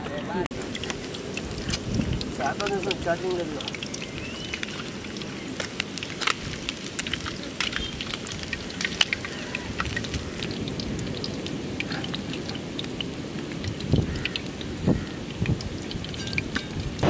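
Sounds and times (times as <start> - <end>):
oil popping and crackling: 0.1 - 17.0
fish deep-frying in hot oil: 0.2 - 17.0.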